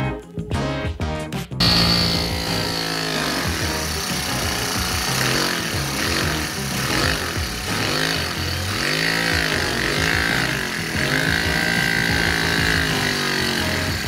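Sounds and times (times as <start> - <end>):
background music: 0.0 - 14.0
small engine mechanical clatter: 1.6 - 14.0.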